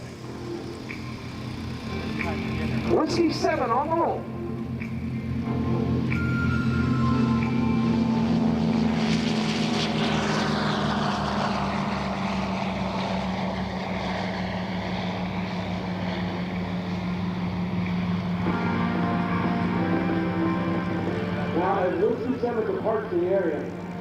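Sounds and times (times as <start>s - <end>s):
propeller noise rushing past: 0.0s - 24.0s
twin propeller engines droning: 0.0s - 24.0s.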